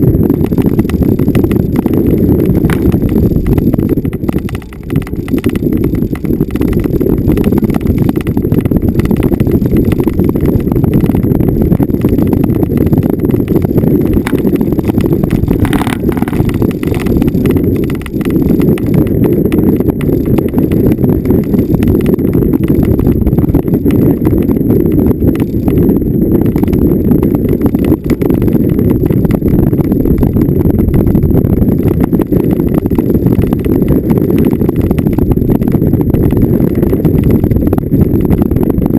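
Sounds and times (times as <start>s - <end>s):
vehicle driving over rough ground: 0.0s - 38.9s.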